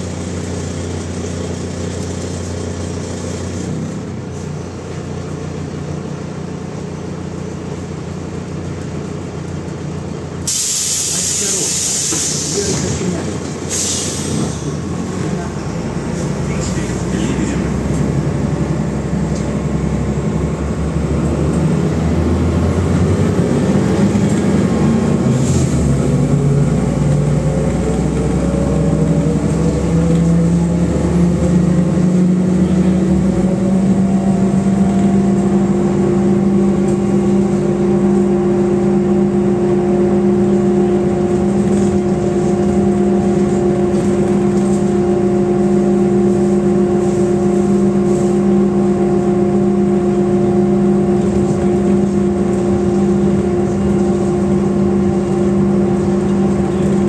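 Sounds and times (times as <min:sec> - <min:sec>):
bus engine and drivetrain whine: 0:00.0 - 0:57.0
road rumble: 0:00.0 - 0:57.0.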